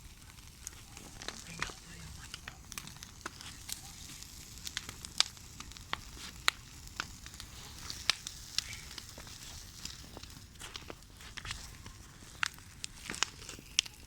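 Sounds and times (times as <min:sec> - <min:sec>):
bonfire crackling: 0:00.0 - 0:14.0
sharp pops: 0:00.2 - 0:14.0.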